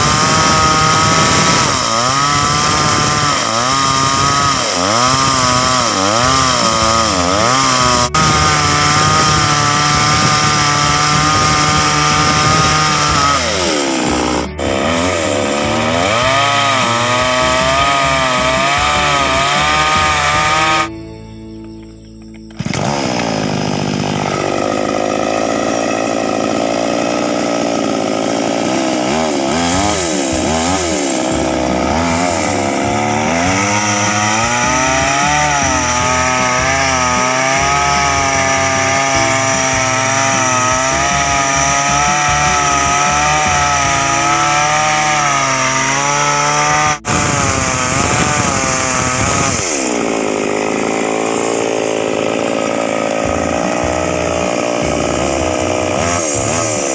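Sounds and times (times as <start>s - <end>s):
chainsaw cutting wood: 0.0s - 21.0s, 21.8s - 56.9s.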